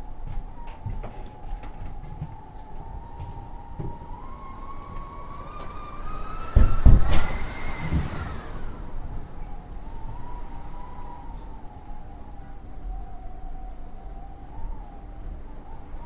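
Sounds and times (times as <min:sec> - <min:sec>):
wavering whistling tone: 0:00.0 - 0:16.0.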